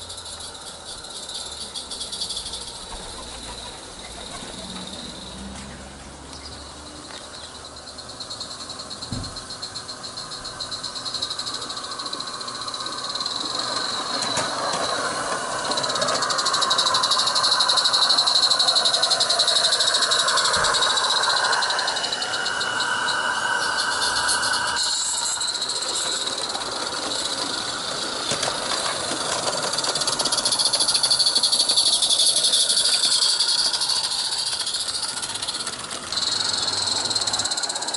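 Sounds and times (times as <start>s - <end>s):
steam hissing: 0.0s - 6.0s, 6.6s - 37.9s
steam locomotive chuffing: 0.0s - 37.9s.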